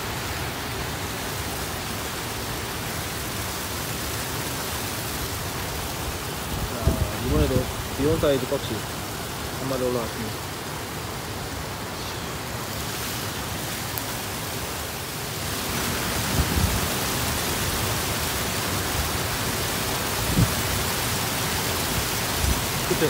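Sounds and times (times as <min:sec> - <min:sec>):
river water rushing over weir: 0:00.0 - 0:23.0.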